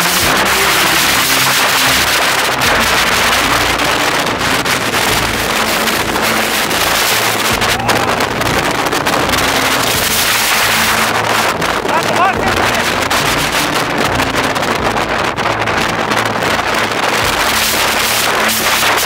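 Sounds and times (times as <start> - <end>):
strong wind rushing: 0.0 - 19.0
wind buffeting microphone: 0.0 - 19.0.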